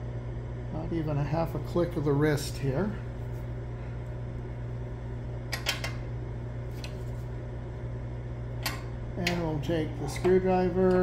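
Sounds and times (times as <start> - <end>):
low hum of cooling fan: 0.0 - 11.0.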